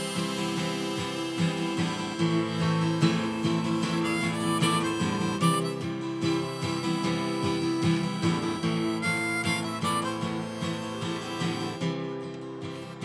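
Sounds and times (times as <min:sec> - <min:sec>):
harmonica: 0:00.0 - 0:13.0
strummed acoustic guitar: 0:00.0 - 0:13.0.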